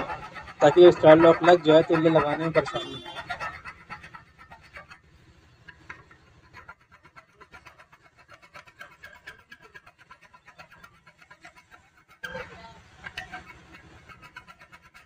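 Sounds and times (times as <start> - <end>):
file rasping on metal: 0.0 - 15.0.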